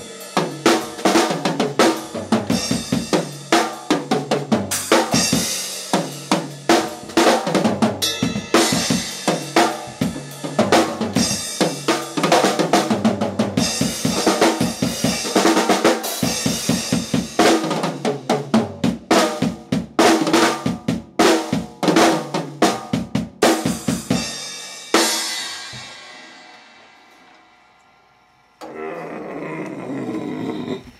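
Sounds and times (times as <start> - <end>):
drum kit playing: 0.0 - 27.8.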